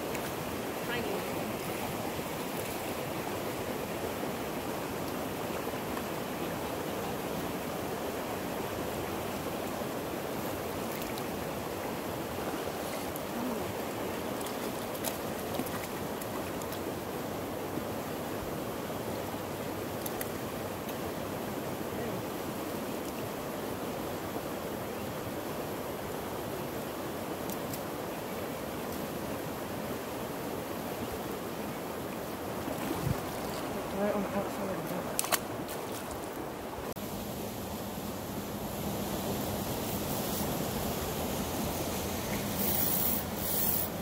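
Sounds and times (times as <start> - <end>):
stream water flowing: 0.0 - 44.0.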